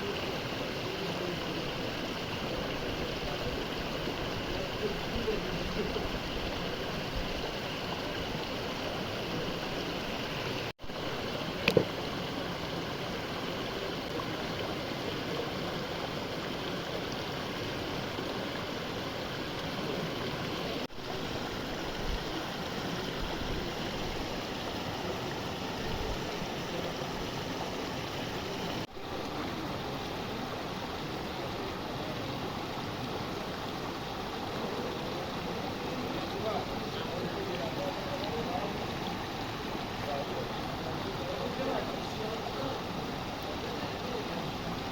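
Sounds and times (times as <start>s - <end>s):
water flowing: 0.0s - 44.9s.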